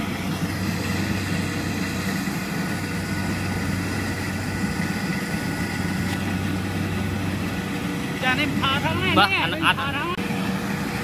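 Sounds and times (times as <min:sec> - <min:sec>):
harvester engine droning: 0:00.0 - 0:11.0
thin constant whine: 0:00.0 - 0:11.0.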